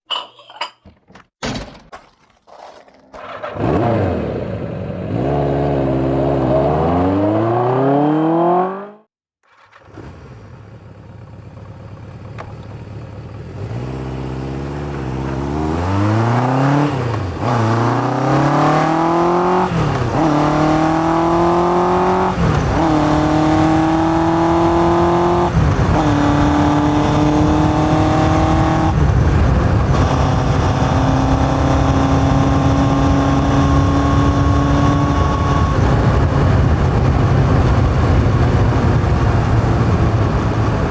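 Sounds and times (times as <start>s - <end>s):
motorcycle engine accelerating: 3.2s - 40.9s.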